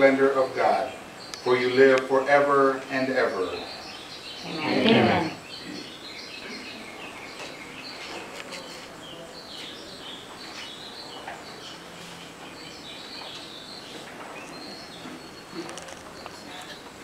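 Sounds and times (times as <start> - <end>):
faint room noise: 0.0 - 17.0
small birds chirping: 0.0 - 17.0.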